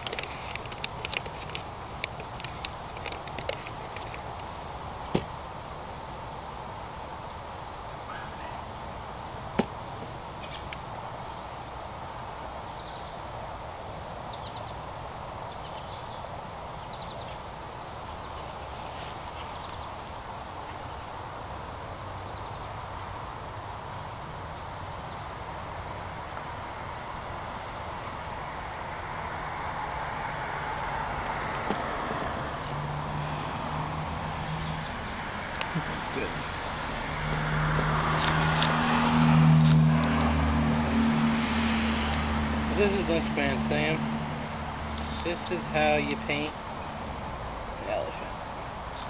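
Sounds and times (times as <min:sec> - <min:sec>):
cricket chirping: 0:00.0 - 0:49.0
high insect drone: 0:00.0 - 0:49.0.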